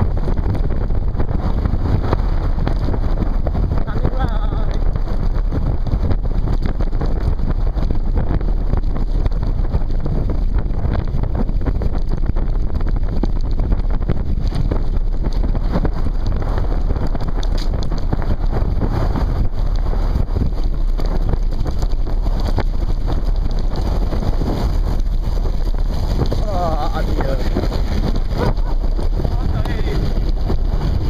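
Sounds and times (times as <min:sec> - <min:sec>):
bike rattling and knocking: 0:00.0 - 0:31.0
wind buffeting microphone: 0:00.0 - 0:31.0.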